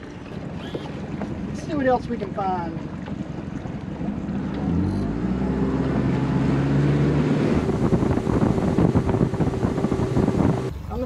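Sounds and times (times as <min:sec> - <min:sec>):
boat motor running: 0:00.0 - 0:11.0
wind buffeting microphone: 0:00.4 - 0:11.0.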